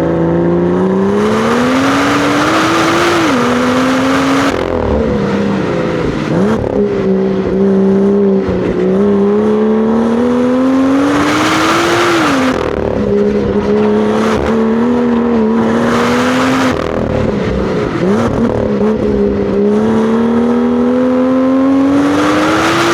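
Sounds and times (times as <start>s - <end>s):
car exhaust revving: 0.0s - 22.9s.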